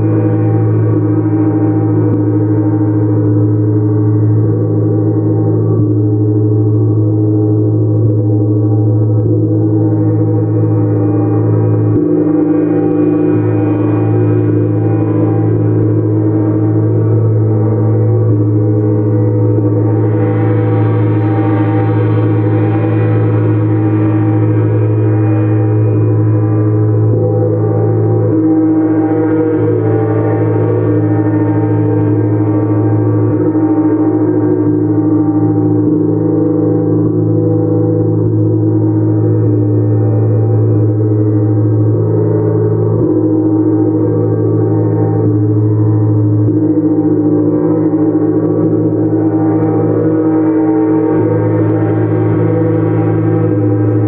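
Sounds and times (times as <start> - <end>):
deep steady hum: 0.0 - 54.0.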